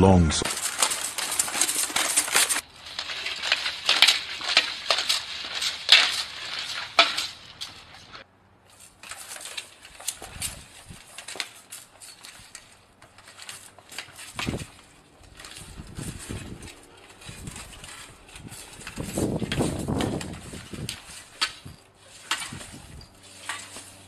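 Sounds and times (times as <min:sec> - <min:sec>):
plate armour clinking: 0:00.4 - 0:08.2, 0:08.8 - 0:24.0.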